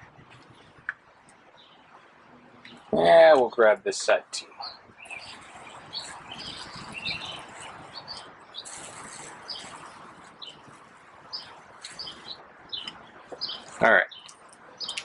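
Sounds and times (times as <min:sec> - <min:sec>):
small birds chirping: 0:00.0 - 0:15.0
steady low hiss: 0:00.0 - 0:15.0.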